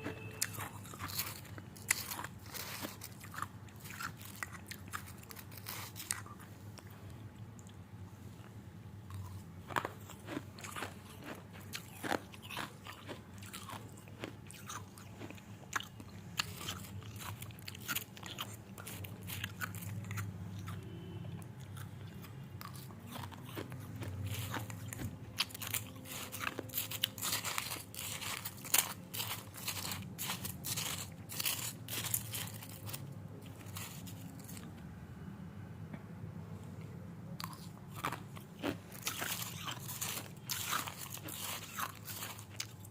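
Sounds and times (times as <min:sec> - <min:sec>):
crisp crunching and crackling: 0:00.0 - 0:06.9, 0:09.1 - 0:20.7, 0:21.8 - 0:34.7, 0:37.4 - 0:42.9
low steady hum: 0:00.0 - 0:42.9.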